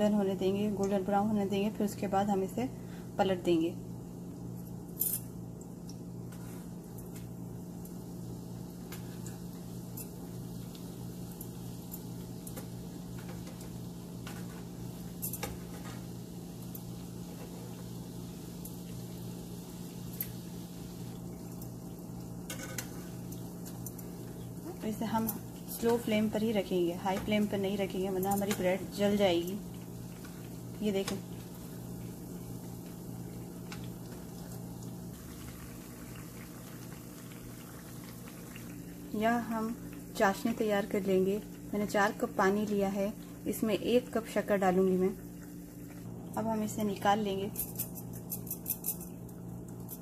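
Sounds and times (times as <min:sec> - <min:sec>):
bread sizzling in hot fat: 0:04.0 - 0:50.0.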